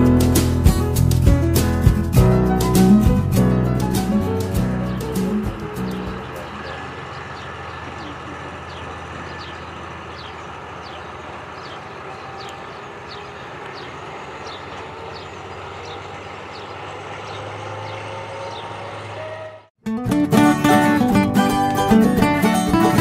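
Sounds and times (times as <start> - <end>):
diesel locomotive rumble: 0.0 - 19.8.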